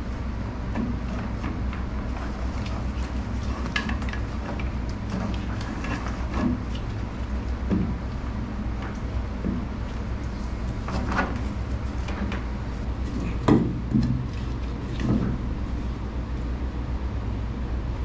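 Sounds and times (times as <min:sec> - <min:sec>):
rope knocks and rustles: 0:00.0 - 0:16.0
low hum: 0:00.0 - 0:18.0.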